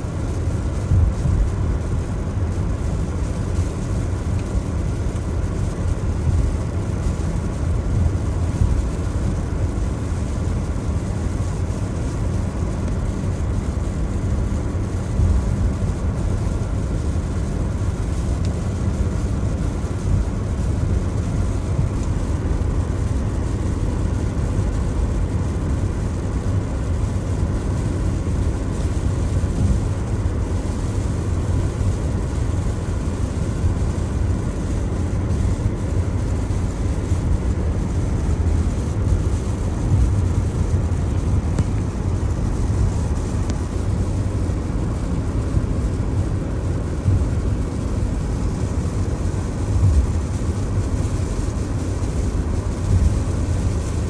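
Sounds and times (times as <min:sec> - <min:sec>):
tyres on wet pavement: 0:00.0 - 0:54.0.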